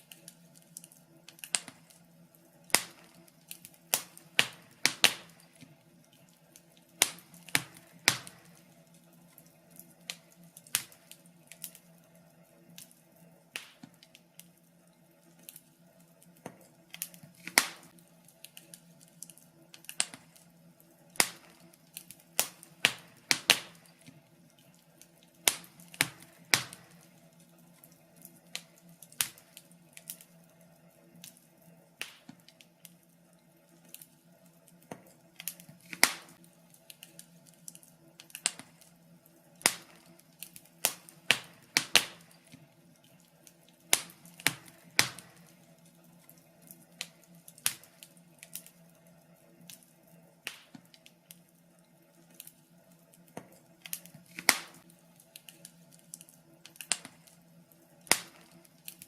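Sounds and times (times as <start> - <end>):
fire pops and snaps: 0.0 - 59.0.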